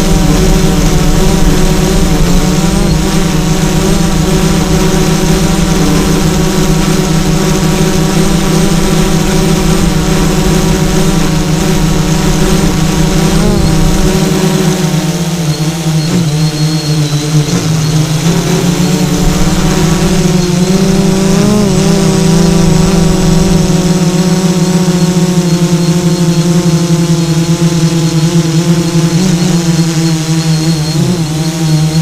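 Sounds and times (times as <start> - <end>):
drone motors humming: 0.0 - 32.0.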